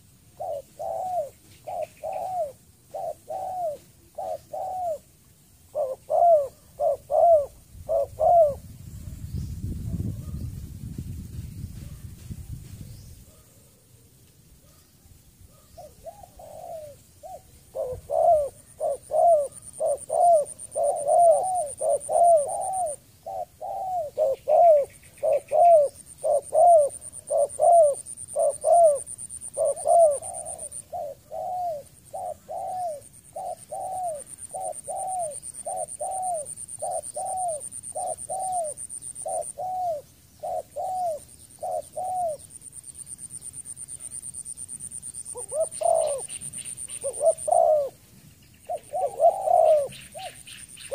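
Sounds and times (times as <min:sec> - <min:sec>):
dove cooing: 0:00.0 - 0:08.7, 0:15.5 - 0:42.6, 0:43.3 - 0:48.1, 0:48.7 - 0:50.9.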